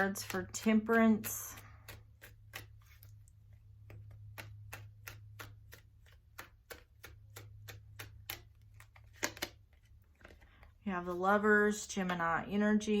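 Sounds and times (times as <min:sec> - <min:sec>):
cards being shuffled: 0:00.0 - 0:11.2.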